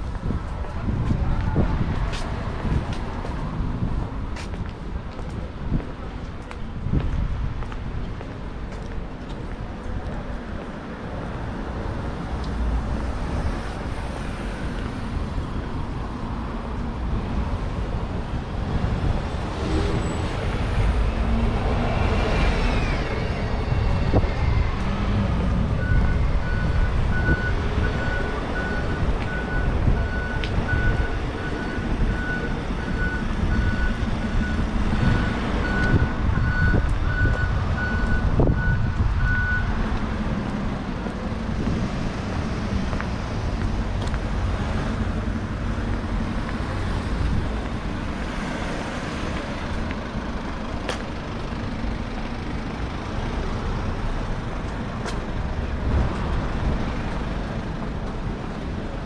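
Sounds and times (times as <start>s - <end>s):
traffic driving past: 0.0s - 59.0s.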